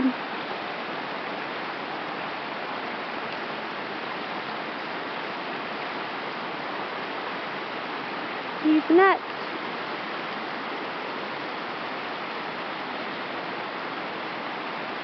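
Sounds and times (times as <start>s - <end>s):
creek water flowing over ice: 0.0s - 15.0s.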